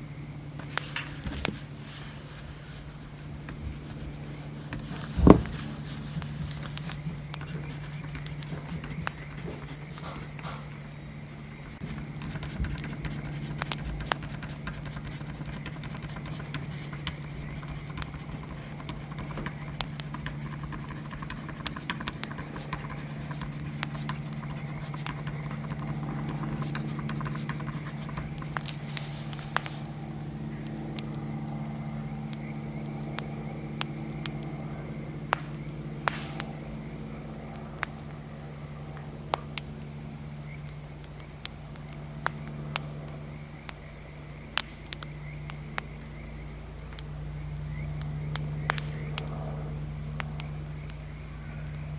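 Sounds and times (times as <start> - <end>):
steady low hum: 0.0 - 51.9
bonfire crackling and popping: 0.2 - 51.9.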